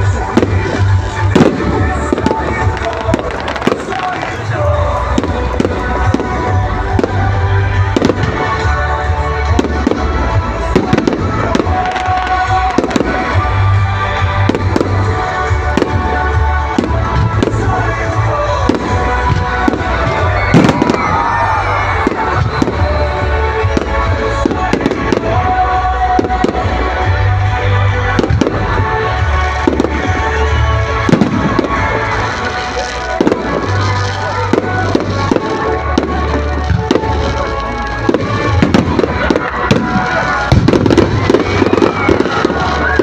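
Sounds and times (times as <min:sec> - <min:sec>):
fireworks bursting: 0:00.0 - 0:43.0
loud music with heavy bass: 0:00.0 - 0:43.0.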